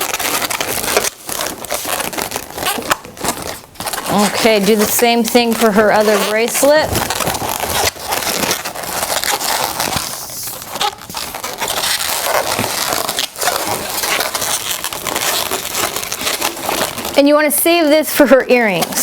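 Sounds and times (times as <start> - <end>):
balloons rubbing and crackling: 0.0 - 19.0.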